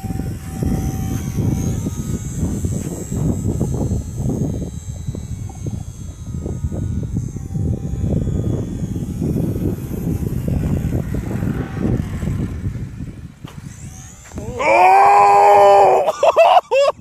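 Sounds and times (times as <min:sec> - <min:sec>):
wind buffeting microphone: 0:00.0 - 0:16.2
propeller plane engine running: 0:00.0 - 0:17.0.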